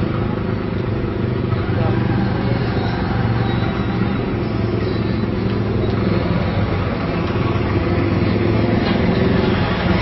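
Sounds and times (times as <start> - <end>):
road and traffic noise: 0.0 - 10.0
vehicle engine running: 0.0 - 10.0.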